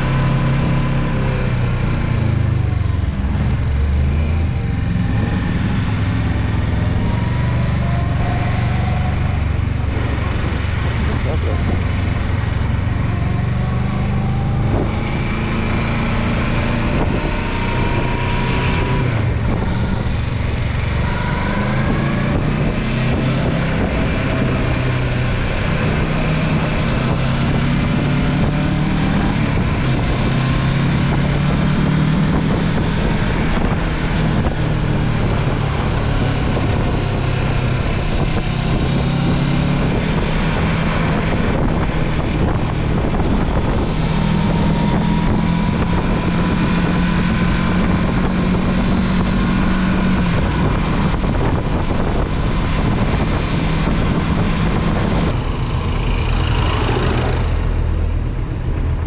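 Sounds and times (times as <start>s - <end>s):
car engine revving: 0.0s - 59.0s
road noise: 0.0s - 59.0s.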